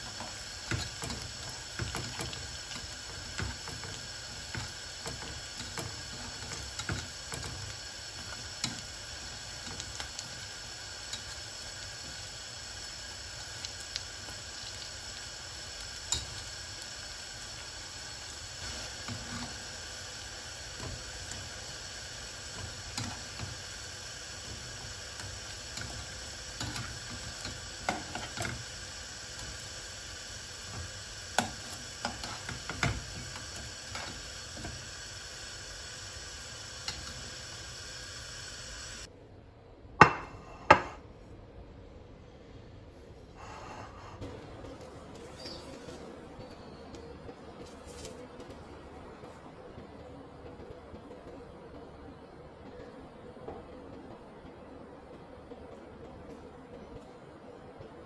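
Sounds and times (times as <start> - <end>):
dough deep-frying in oil: 0.0 - 39.1, 43.6 - 53.8.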